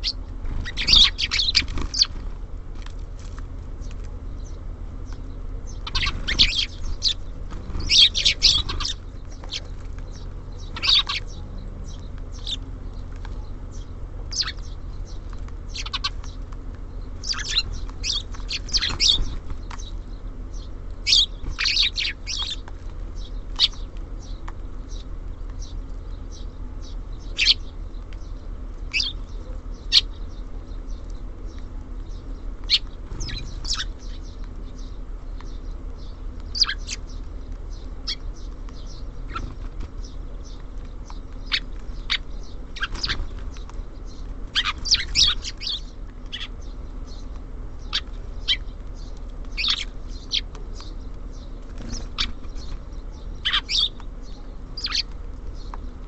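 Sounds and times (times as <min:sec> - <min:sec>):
small songbirds chirping: 0:00.0 - 0:56.0
steady low hum: 0:00.0 - 0:56.0.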